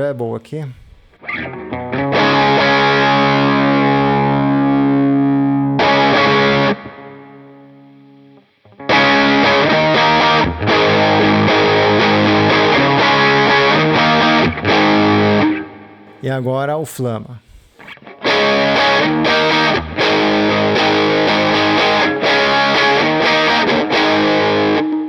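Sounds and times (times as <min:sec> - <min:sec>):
overdriven electric guitar: 0:01.1 - 0:16.1, 0:17.7 - 0:25.0.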